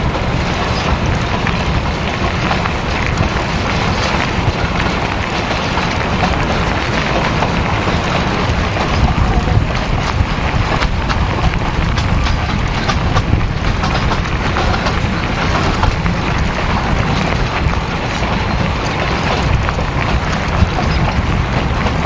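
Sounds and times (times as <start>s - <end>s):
tyres ticking on gravel: 0.0s - 22.0s
vehicle rumble: 0.0s - 22.0s
wind rushing over microphone: 0.0s - 22.0s.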